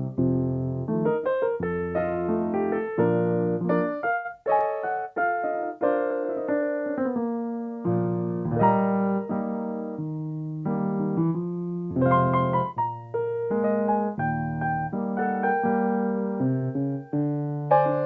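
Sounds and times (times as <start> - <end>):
solo piano: 0.0 - 18.0.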